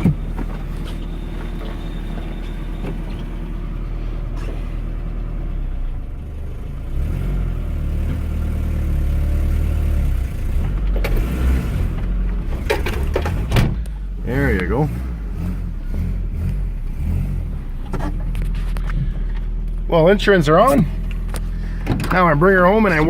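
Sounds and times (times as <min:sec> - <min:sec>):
pickup engine running: 0:00.0 - 0:23.0.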